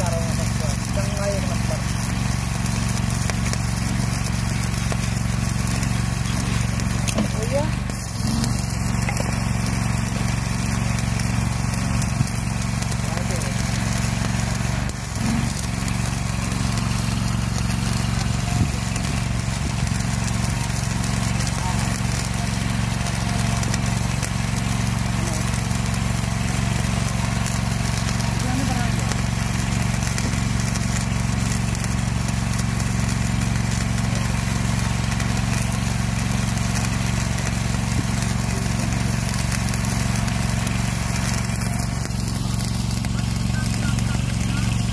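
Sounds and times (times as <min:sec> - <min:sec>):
small engine droning: 0:00.0 - 0:44.9
welding hiss and crackle: 0:00.0 - 0:44.9.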